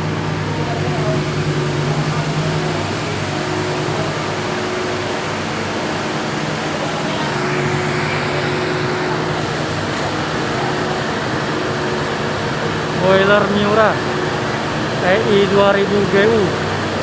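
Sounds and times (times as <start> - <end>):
machinery drone with low hum: 0.0 - 17.0.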